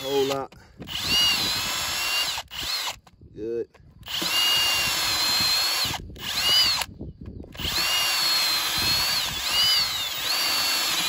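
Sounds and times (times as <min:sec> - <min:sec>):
power drill boring into wood: 0:00.0 - 0:03.1, 0:04.0 - 0:11.0.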